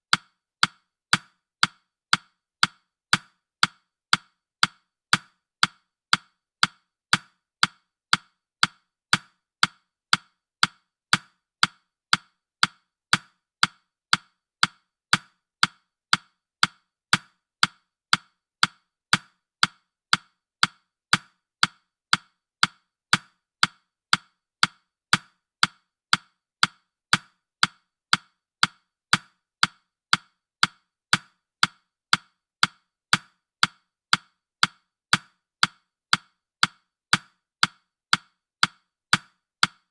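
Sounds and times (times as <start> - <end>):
wooden clock ticks: 0.0 - 39.9.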